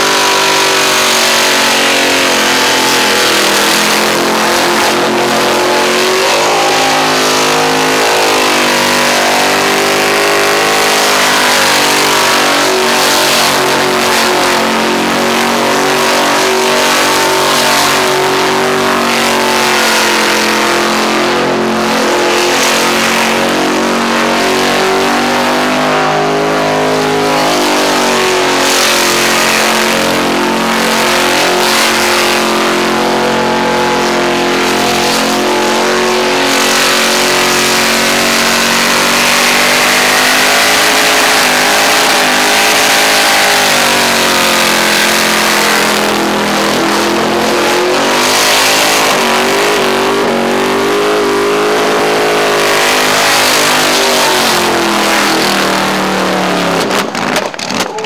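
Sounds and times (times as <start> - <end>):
car engine revving high: 0.0 - 58.0.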